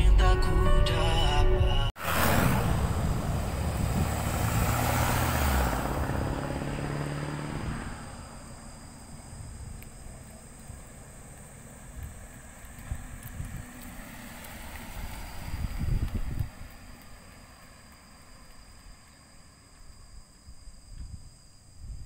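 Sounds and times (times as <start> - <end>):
car passing by: 2.0 - 19.6.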